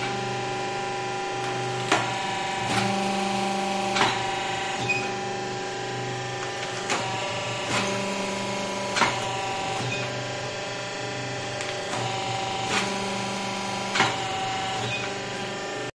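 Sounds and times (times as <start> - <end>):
machine motor hum: 0.0 - 15.9.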